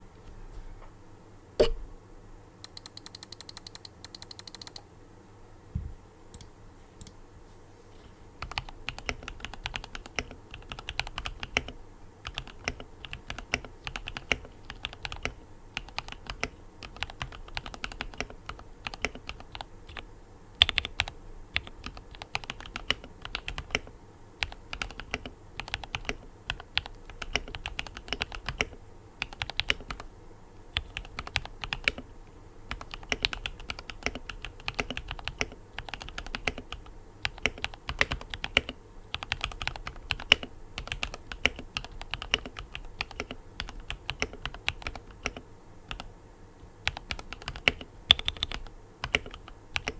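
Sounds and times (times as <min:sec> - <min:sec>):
mechanical keyboard typing: 0:02.6 - 0:04.8, 0:08.4 - 0:30.1, 0:30.8 - 0:32.1, 0:32.7 - 0:46.1, 0:46.8 - 0:49.9.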